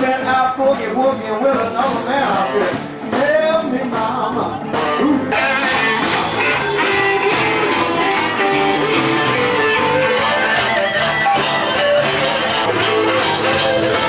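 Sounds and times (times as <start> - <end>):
blues electric guitar: 0.0 - 14.0
steady drum beat: 0.0 - 14.0.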